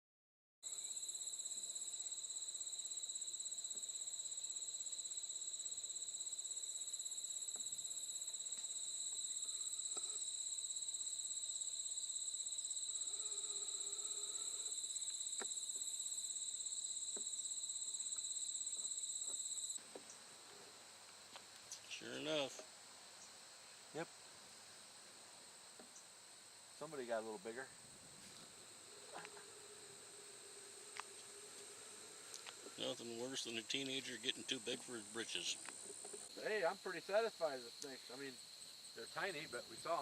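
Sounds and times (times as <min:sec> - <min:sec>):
insect trilling: 0:00.7 - 0:19.8, 0:26.8 - 0:40.0.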